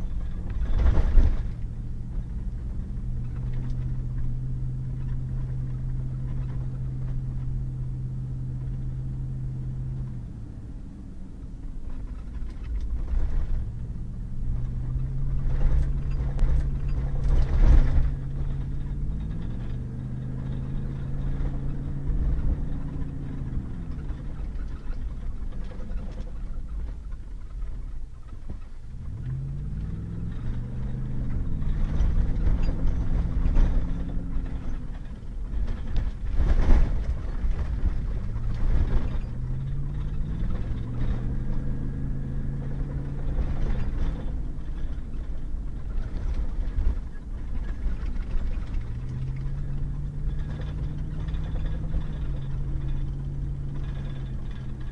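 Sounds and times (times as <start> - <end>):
road rumble: 0.0 - 54.9
truck engine hum: 0.0 - 54.9.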